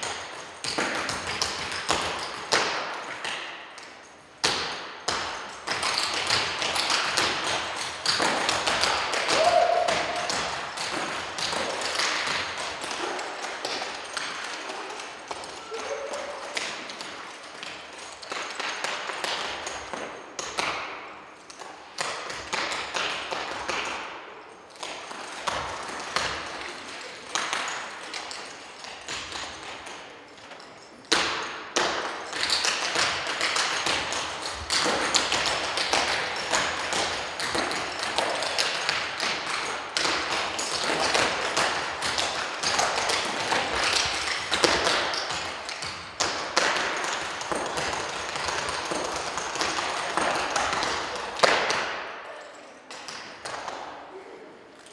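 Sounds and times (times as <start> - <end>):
tap shoes on wooden stage: 0.0 - 52.1.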